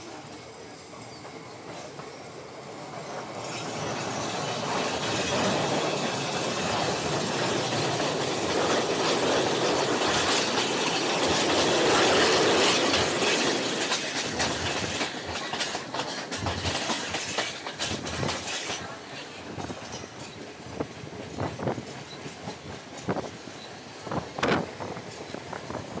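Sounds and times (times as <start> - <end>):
train wheels rushing on rail: 0.0 - 26.0
wheels clattering over track: 3.1 - 26.0.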